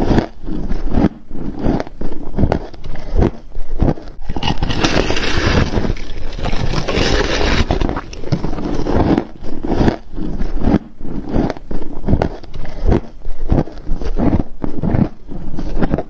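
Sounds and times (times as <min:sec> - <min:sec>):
frost being bitten and chewed: 0:00.0 - 0:16.0.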